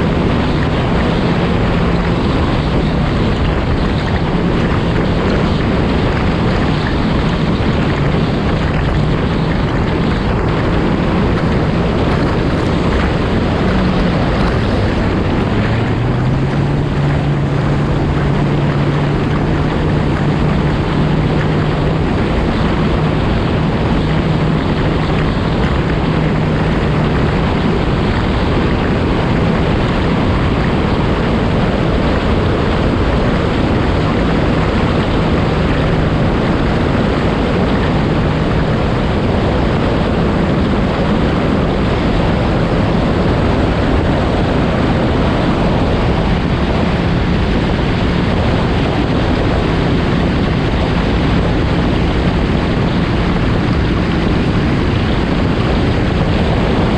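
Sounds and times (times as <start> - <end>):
rushing water: 0.0 - 56.9
watercraft engine drone: 0.0 - 56.9
wind rush on microphone: 0.0 - 56.9.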